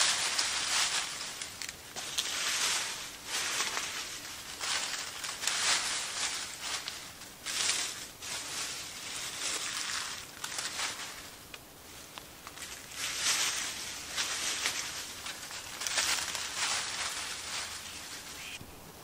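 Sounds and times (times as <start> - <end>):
dry leaves crunching and rustling: 0.0 - 18.6.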